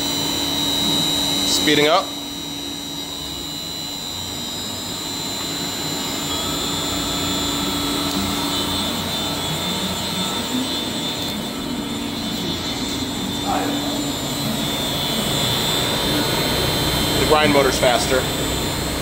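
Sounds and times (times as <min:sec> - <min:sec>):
grinder motor humming and whining: 0:00.0 - 0:19.0.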